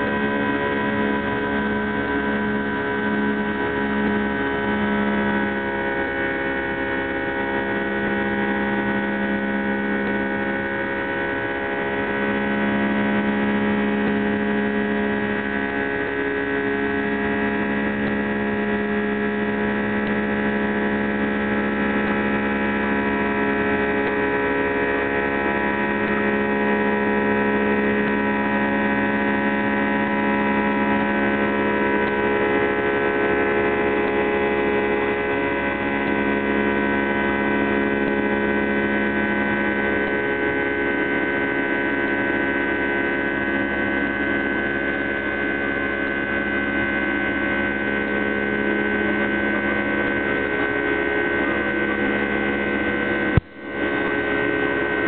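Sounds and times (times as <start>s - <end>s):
jet engines whining drone: 0.0s - 55.0s.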